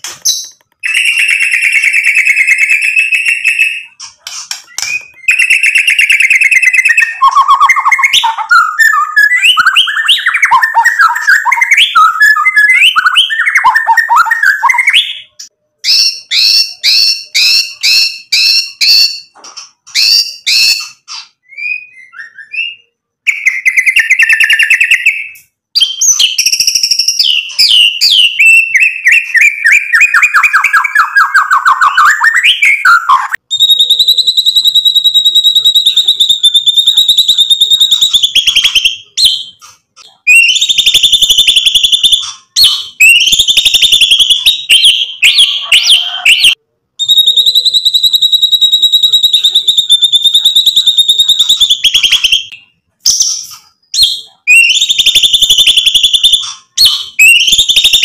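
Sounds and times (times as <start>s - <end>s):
bird singing varied song: 0.0s - 58.0s.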